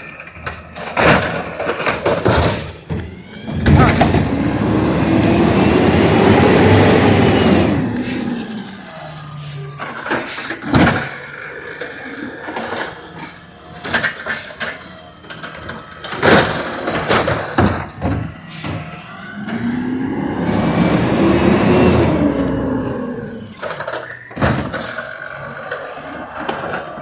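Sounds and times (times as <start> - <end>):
garbage truck clanks and bangs: 0.0 - 7.9, 10.4 - 22.6, 23.8 - 27.0
truck engine revving: 1.1 - 27.0.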